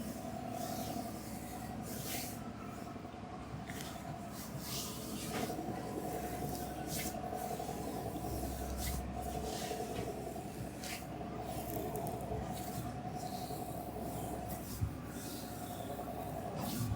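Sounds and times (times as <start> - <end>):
steady background hum: 0.0 - 16.9.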